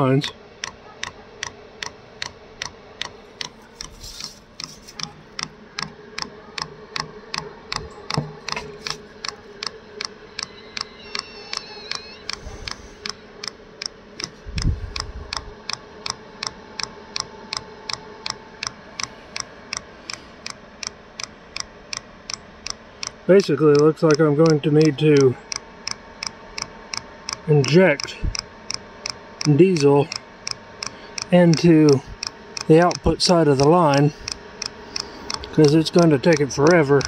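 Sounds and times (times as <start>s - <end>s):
steady hum: 0.0s - 37.0s
fuel pump clicking: 0.6s - 37.0s.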